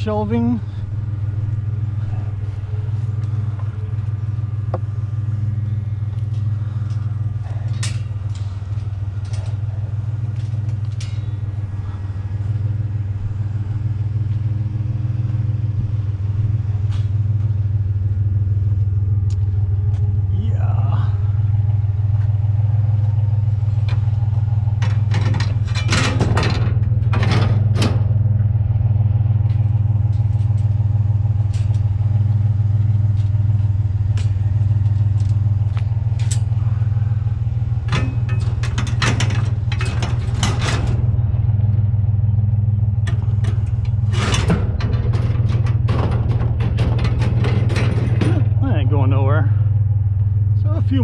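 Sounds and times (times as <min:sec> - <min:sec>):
rattling and clatter: 0:00.0 - 0:20.3, 0:21.1 - 0:51.0
truck engine and road drone: 0:00.0 - 0:51.0.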